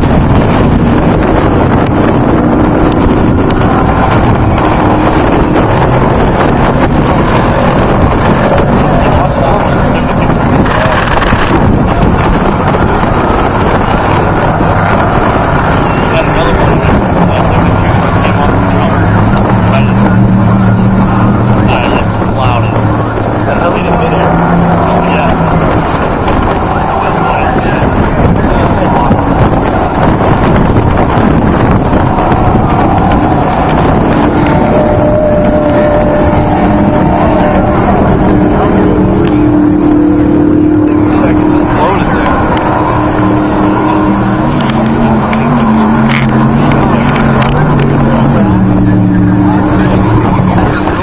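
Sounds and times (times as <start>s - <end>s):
loud rush of noise: 0.0s - 51.0s
truck engine running: 0.0s - 51.0s
wind buffeting microphone: 0.0s - 51.0s.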